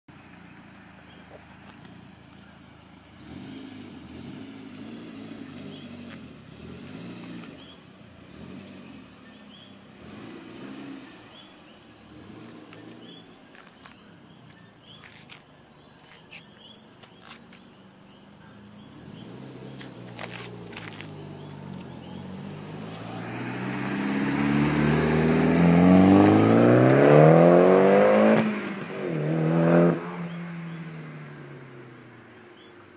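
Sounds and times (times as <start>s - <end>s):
car engine humming: 0.1s - 32.9s
crickets chirping: 0.1s - 32.9s.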